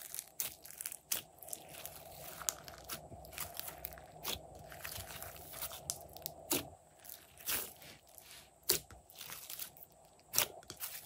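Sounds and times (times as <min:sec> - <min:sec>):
hands squeezing slime: 0:00.0 - 0:11.0.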